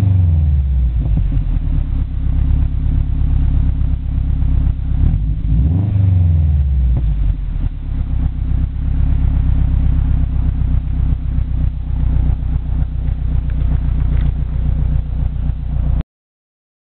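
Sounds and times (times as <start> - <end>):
car engine idling: 0.2 - 16.0.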